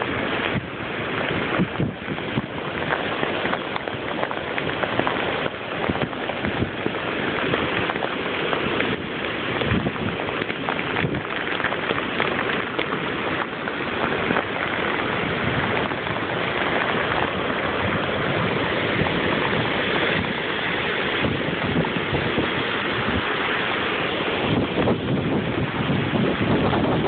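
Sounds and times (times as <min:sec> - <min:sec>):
heavy rain pouring: 0:00.0 - 0:27.0
wind: 0:00.0 - 0:27.0.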